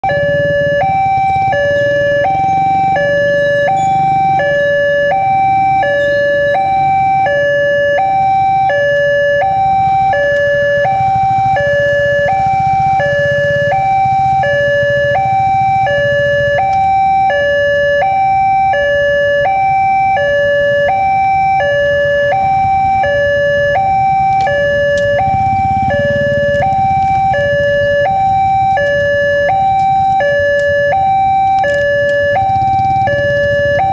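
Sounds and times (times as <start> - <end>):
two-tone crossing alarm: 0.0 - 33.9.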